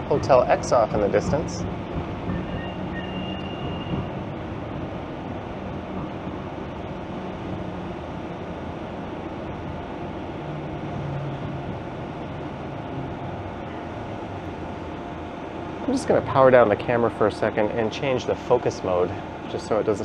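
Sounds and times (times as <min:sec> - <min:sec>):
low motor hum: 0:00.0 - 0:20.0
streetcar wheels on rails: 0:00.0 - 0:20.0.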